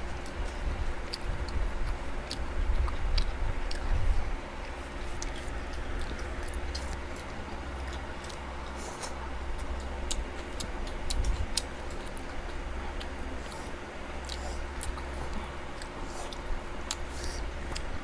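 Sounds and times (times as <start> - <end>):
steady low hum: 0.0 - 18.0
chewing and mouth sounds: 0.1 - 18.0.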